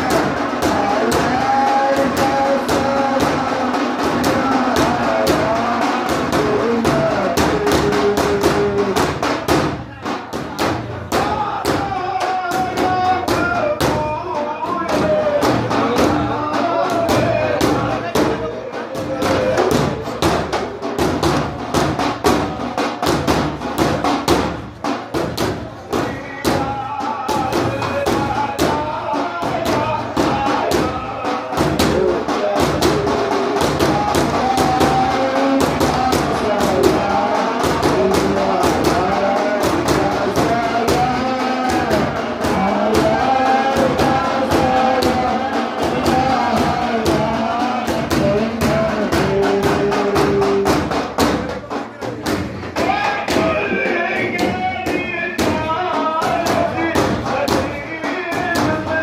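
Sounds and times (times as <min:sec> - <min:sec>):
frame drums beating fast: 0:00.0 - 0:59.0
voices singing devotional chant: 0:00.0 - 0:59.0.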